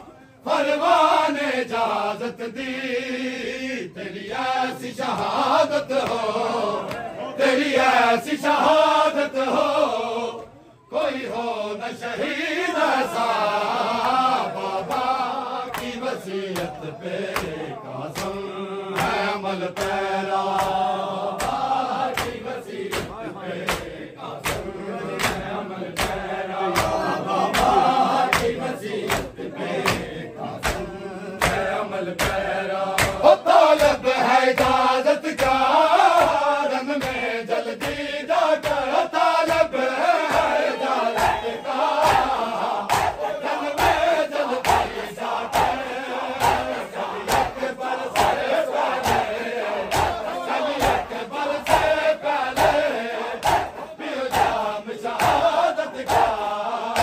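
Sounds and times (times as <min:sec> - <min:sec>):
crowd slapping chests rhythmically: 0:00.0 - 0:57.0
men chanting: 0:00.0 - 0:57.0.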